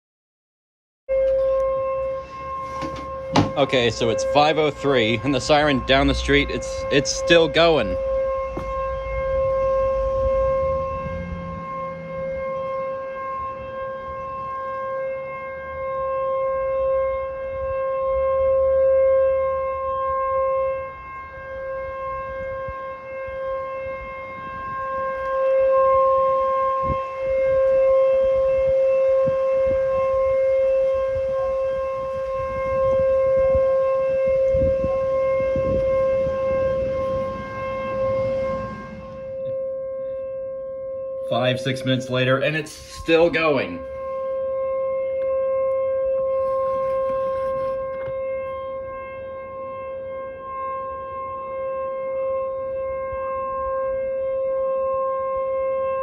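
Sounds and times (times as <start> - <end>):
warning siren steady tone: 1.1 - 56.0.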